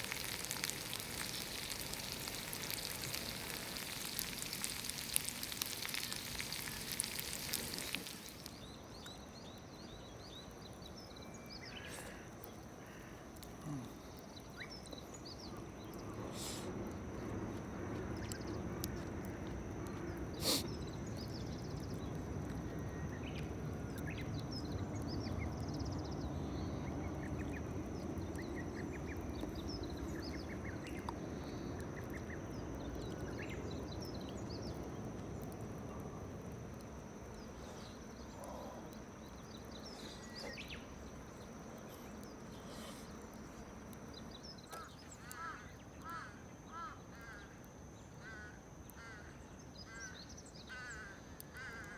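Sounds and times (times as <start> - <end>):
low background noise: 0.0 - 51.9.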